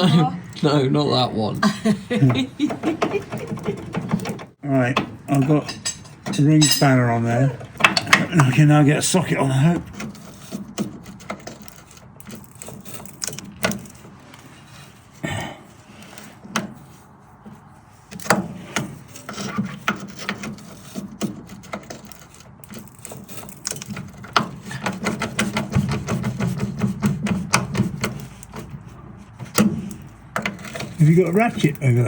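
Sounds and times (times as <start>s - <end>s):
metal knocks and clicks: 2.2s - 14.2s, 16.0s - 32.0s.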